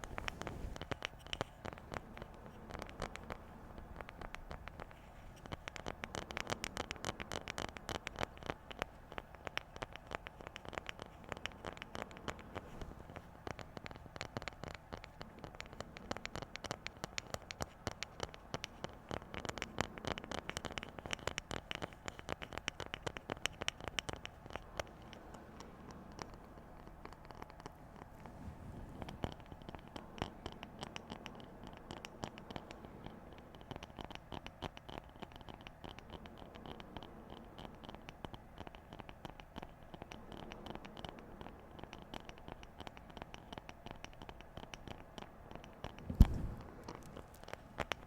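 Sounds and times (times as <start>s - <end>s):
fast finger tapping: 0.0s - 48.0s.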